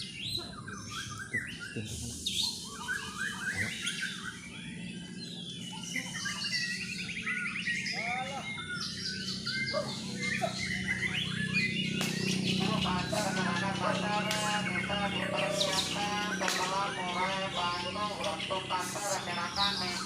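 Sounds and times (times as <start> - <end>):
birds singing whistles and trills: 0.0 - 20.0.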